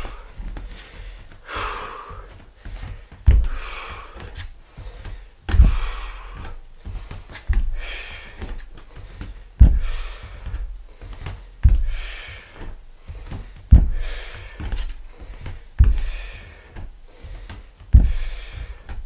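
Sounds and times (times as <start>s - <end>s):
bare feet thudding on wooden floor: 0.0s - 19.0s
person breathing hard: 0.0s - 19.0s.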